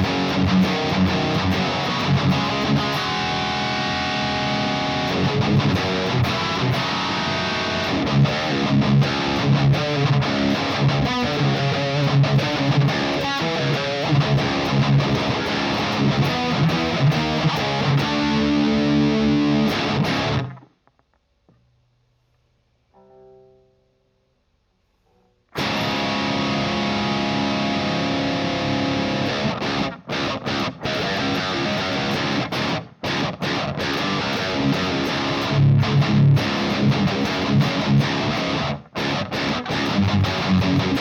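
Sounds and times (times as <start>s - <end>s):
distorted electric guitar riffing: 0.0s - 20.7s, 25.6s - 41.0s.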